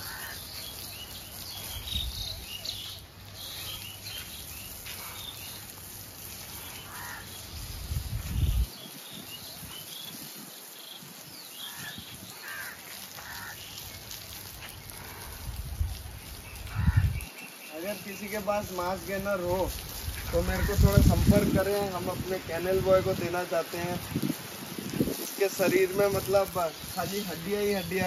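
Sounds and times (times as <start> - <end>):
birds chirping: 0.0 - 28.0
steady high hiss: 0.0 - 28.0.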